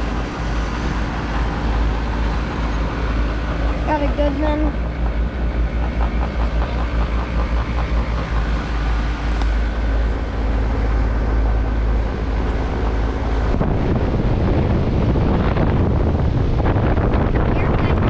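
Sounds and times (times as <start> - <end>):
air gusting across microphone: 0.0 - 18.0.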